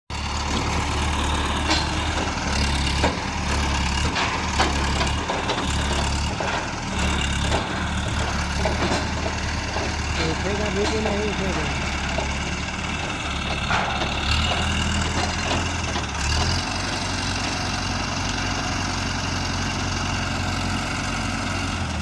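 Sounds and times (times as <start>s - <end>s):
crane diesel engine running: 0.1s - 22.0s
sharp knocks and clanks: 0.4s - 18.7s.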